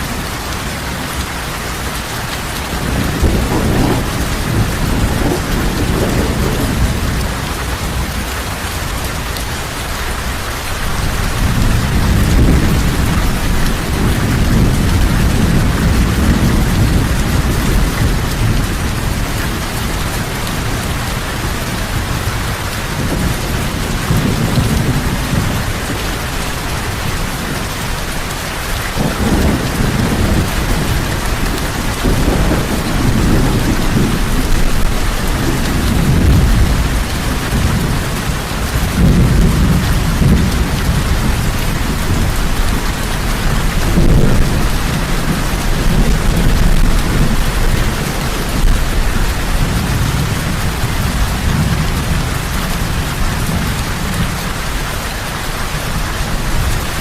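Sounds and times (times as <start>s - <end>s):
rolling thunder: 0.0s - 54.8s
heavy rain: 0.0s - 57.0s.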